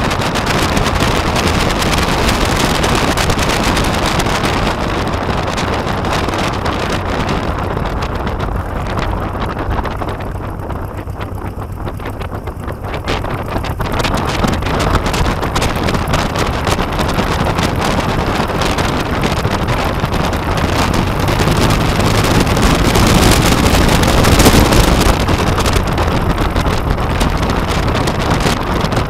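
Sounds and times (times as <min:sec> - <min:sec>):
light plane engine drone: 0:00.0 - 0:29.0
wind buffeting microphone: 0:00.0 - 0:29.0.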